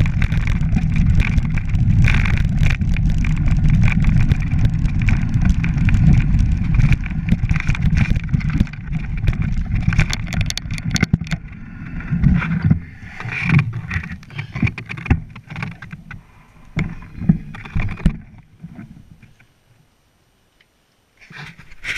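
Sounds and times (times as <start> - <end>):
bike rattling and clattering: 0.0 - 19.3
bike tyres rumbling on rocks: 0.0 - 19.4.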